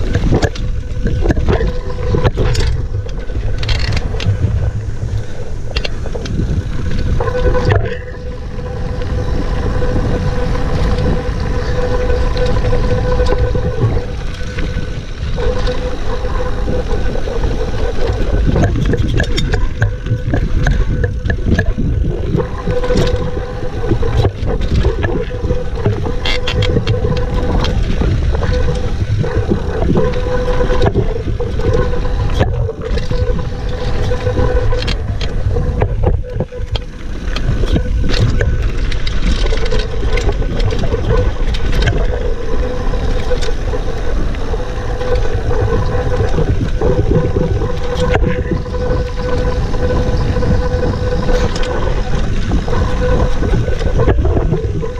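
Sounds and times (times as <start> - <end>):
humming tone: 0.0 - 54.9
wind rushing over camera: 0.0 - 54.9.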